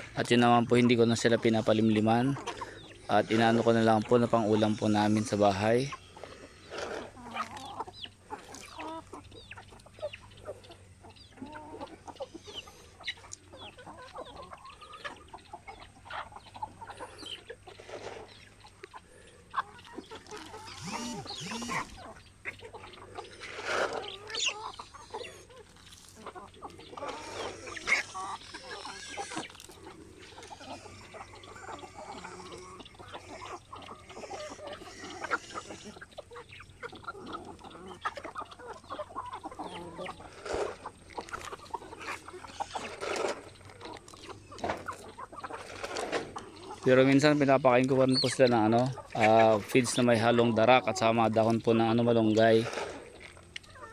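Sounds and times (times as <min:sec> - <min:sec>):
chicken calls: 0:00.0 - 0:53.9
chickens clucking: 0:00.0 - 0:53.9.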